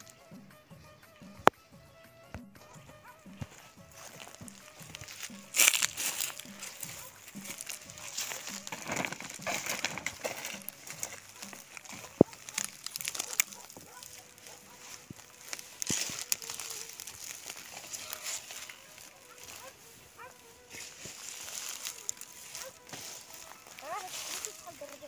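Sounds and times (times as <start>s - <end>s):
footsteps through grass: 0.0s - 0.4s, 2.6s - 25.0s
weeds rustling: 3.0s - 25.0s
plastic sacks crinkling: 3.9s - 25.0s.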